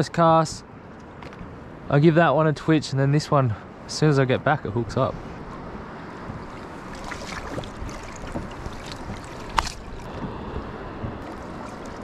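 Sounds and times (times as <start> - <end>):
water around a boat: 0.0 - 12.0
wind: 0.0 - 12.0.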